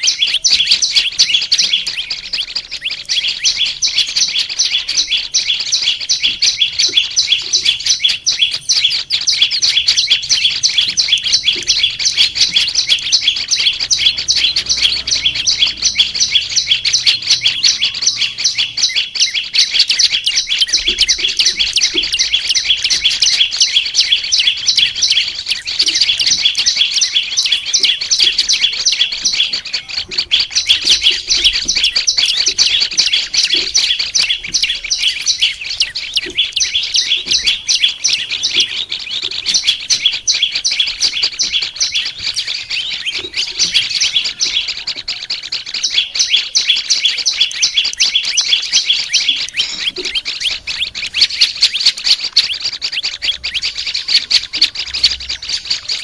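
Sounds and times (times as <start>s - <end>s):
songbird chirping rapidly: 0.0s - 56.0s.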